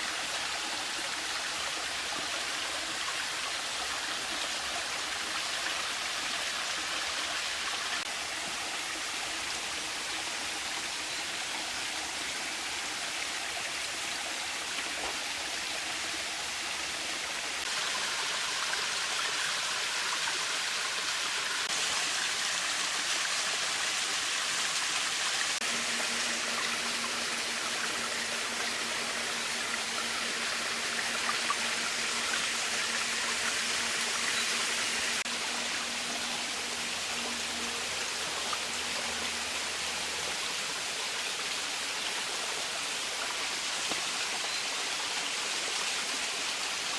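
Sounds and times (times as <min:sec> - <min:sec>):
mountain stream running: 0:00.0 - 0:46.9.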